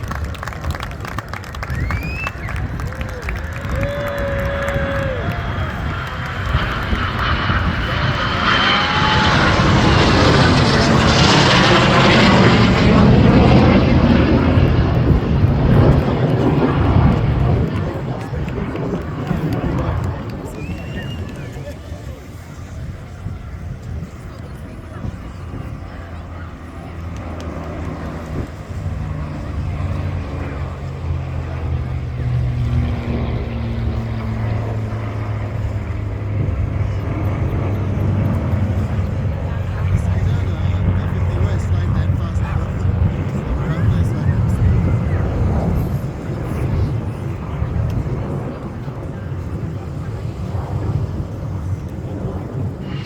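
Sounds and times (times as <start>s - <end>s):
airplane engine flying by: 0.0s - 53.0s.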